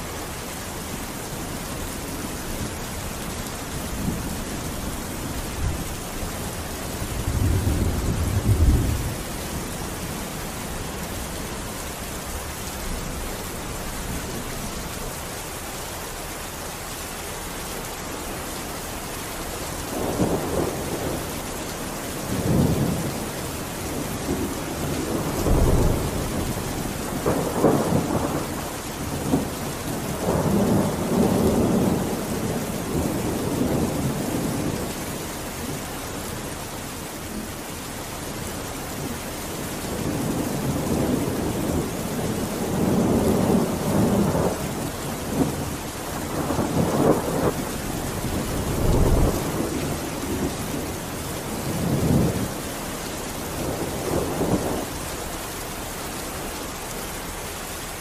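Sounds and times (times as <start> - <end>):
thunder rumbling: 0.0 - 15.3, 19.3 - 35.8, 39.8 - 56.8
rain hissing: 0.0 - 58.0.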